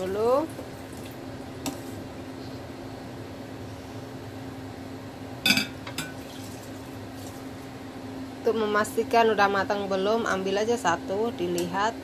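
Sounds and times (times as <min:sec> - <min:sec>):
low appliance hum: 0:00.0 - 0:12.0.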